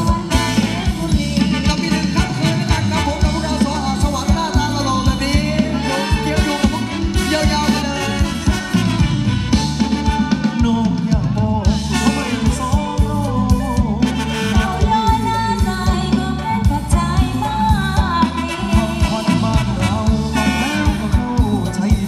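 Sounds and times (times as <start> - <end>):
dance-band music over loudspeaker: 0.0 - 22.0
person singing melody: 0.0 - 22.0
steady drum beat: 0.0 - 22.0.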